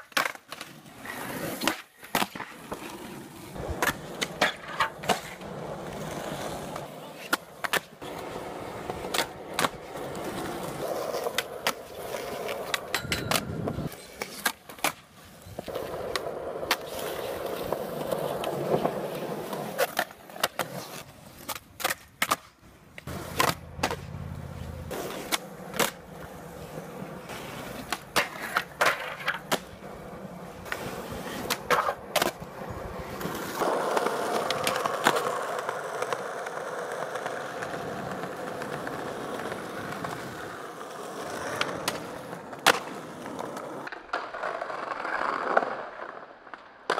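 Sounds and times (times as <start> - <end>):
skateboard popping and landing: 0.0 - 46.9
skateboard wheels rolling on concrete: 0.0 - 46.9.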